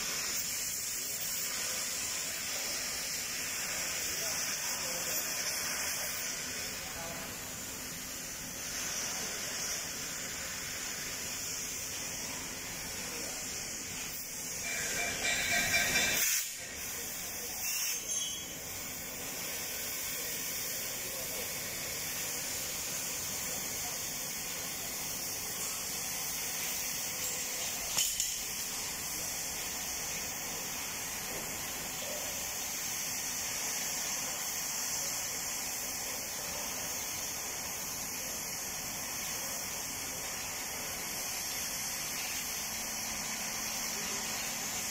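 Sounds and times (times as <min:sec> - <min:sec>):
torch flame hissing: 0:00.0 - 0:44.9.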